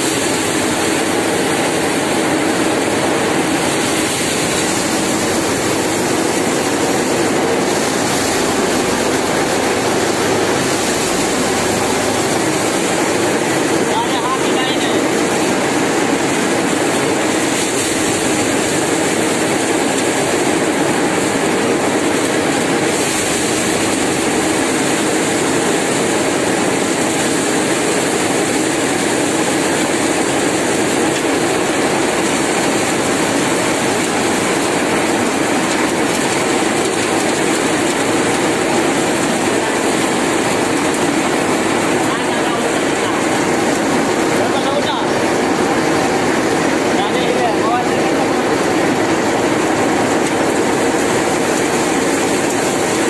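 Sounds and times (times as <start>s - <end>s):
thresher running: 0.0s - 53.0s.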